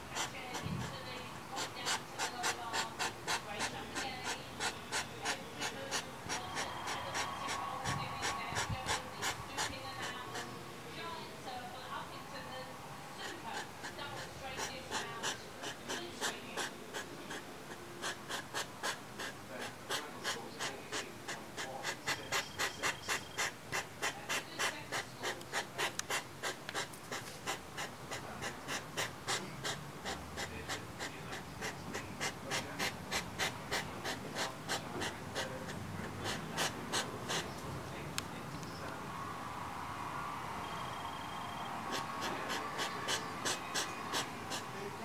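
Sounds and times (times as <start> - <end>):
hedgehogs huffing and snorting: 0.0 - 10.6, 13.1 - 37.8, 41.6 - 45.0.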